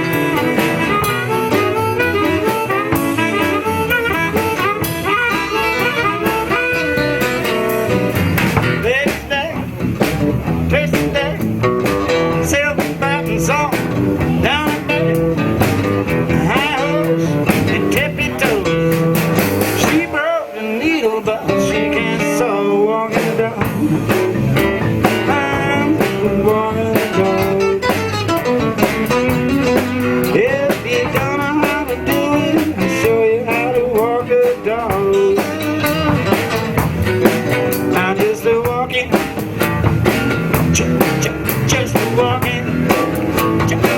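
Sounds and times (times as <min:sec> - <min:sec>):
blues band playing: 0:00.0 - 0:43.9
guitar bending lead lines: 0:00.0 - 0:43.9.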